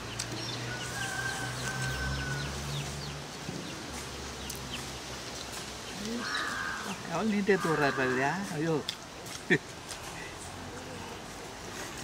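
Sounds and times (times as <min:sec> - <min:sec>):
birds chirping: 0:00.0 - 0:11.4.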